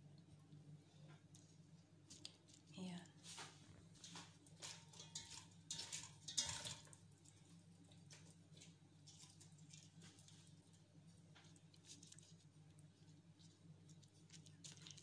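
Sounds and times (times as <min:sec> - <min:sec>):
faint low hum: 0:00.0 - 0:15.0
soft rustling and handling: 0:00.1 - 0:15.0.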